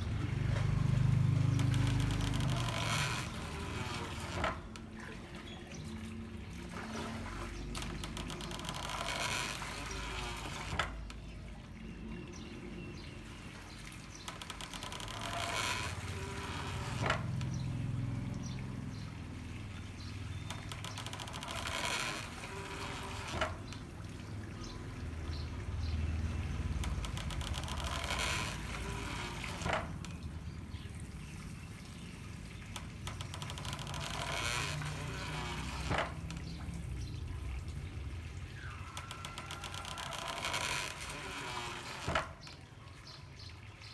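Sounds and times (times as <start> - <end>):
rush of pouring water: 0.0 - 43.9
water flowing: 0.0 - 43.9.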